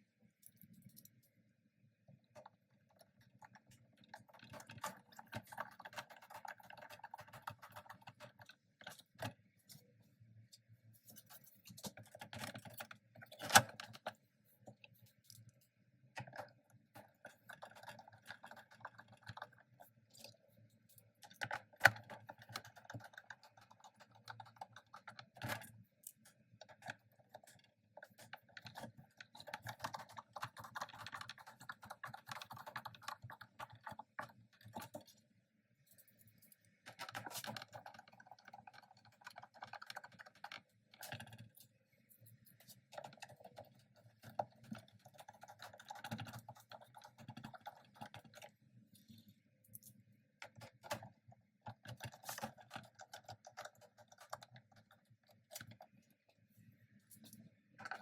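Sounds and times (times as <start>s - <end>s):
plastic parts clicking and rattling: 2.3s - 9.8s, 11.0s - 15.6s, 16.2s - 35.2s, 35.8s - 58.0s.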